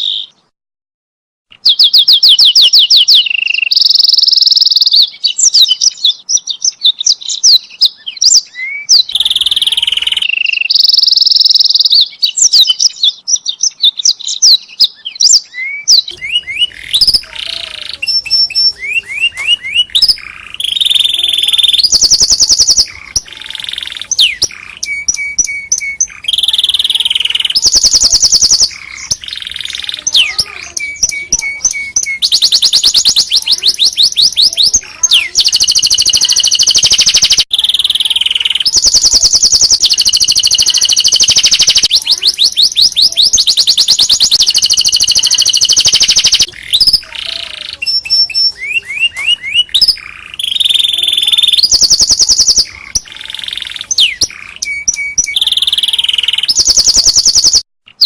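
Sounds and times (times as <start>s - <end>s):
canary singing trills: 0.0s - 0.5s, 1.5s - 58.0s.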